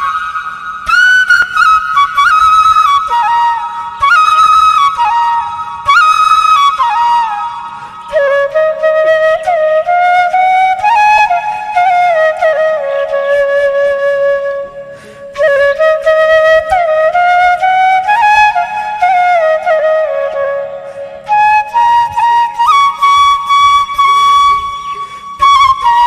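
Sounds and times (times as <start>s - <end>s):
solo flute melody: 0.0s - 26.0s.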